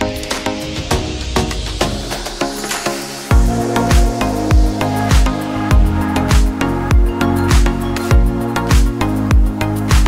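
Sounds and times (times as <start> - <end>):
background music with percussive beat: 0.0 - 10.0.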